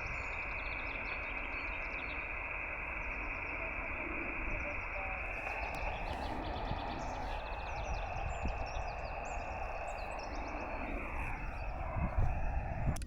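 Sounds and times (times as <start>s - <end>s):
muffled radio receiver hiss: 0.0s - 13.0s
small birds chirping: 0.0s - 13.0s.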